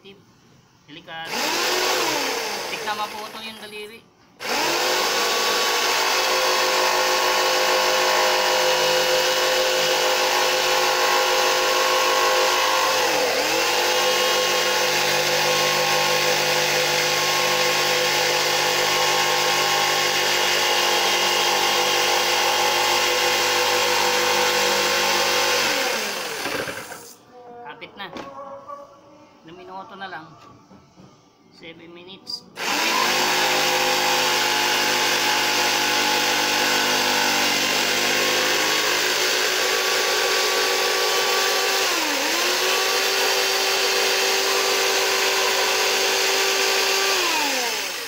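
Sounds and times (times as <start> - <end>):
electric router whining: 1.3 - 3.7, 4.4 - 27.2, 32.6 - 48.0.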